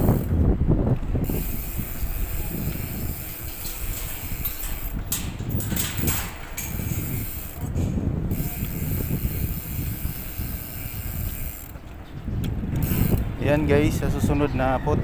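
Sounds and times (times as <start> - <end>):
bicycle clicking and rattling: 0.0 - 14.0
low rumble of bicycle ride: 0.0 - 15.0.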